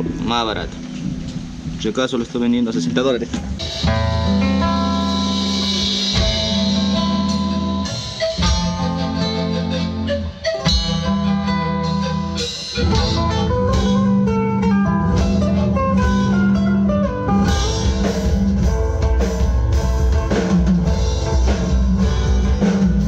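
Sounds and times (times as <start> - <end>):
bass line: 0.0 - 23.0
drum kit: 0.0 - 23.0
acoustic guitars strummed: 3.2 - 23.0.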